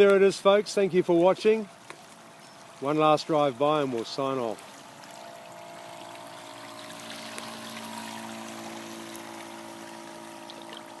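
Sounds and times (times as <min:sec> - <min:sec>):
water wash: 0:00.0 - 0:11.0
model boat motor whining: 0:01.8 - 0:11.0.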